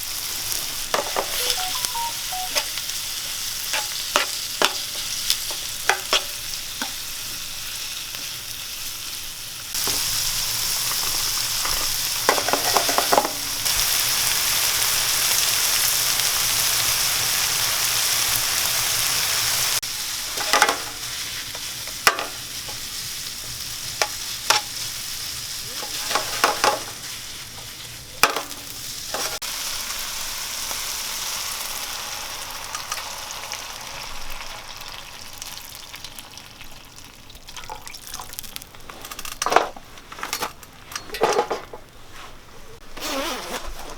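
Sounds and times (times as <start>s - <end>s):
food sizzling in a pan: 0.0s - 38.8s.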